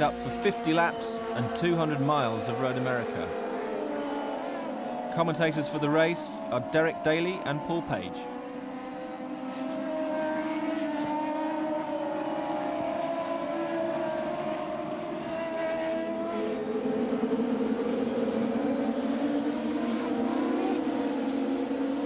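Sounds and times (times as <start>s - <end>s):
race car engines at full throttle: 0.0s - 22.0s.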